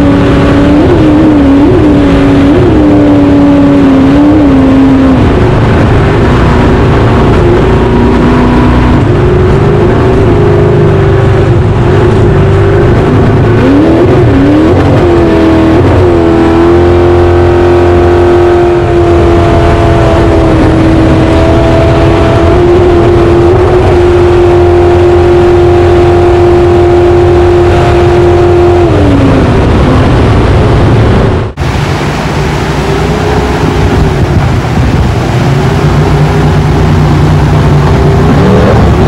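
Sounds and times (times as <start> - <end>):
boat engine at high revs: 0.0 - 39.0.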